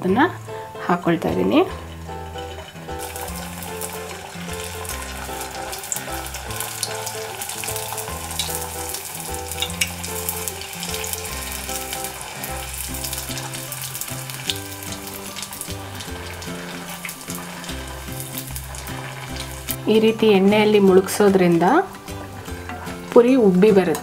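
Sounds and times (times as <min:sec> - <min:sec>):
slow background music: 0:00.0 - 0:24.0
oil sizzling with crackling pops: 0:00.4 - 0:24.0.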